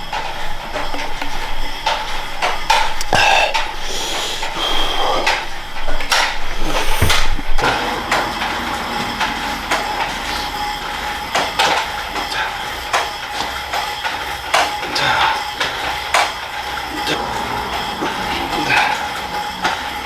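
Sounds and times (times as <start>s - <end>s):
machine hum: 0.0s - 20.0s
metal weights clanking: 0.0s - 20.0s.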